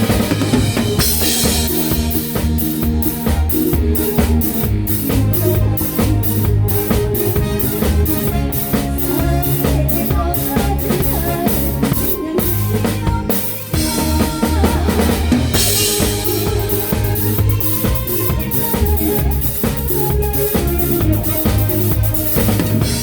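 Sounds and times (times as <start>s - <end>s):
drum kit: 0.0s - 23.0s
live band playing: 0.0s - 23.0s.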